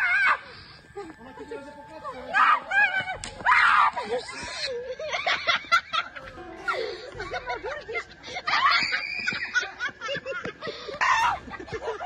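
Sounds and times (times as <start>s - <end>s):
people laughing: 0.9s - 12.0s.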